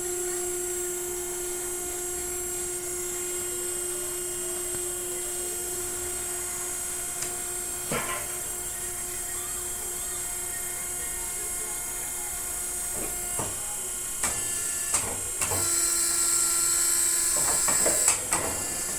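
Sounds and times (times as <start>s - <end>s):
motor humming with a whine: 0.0s - 18.9s.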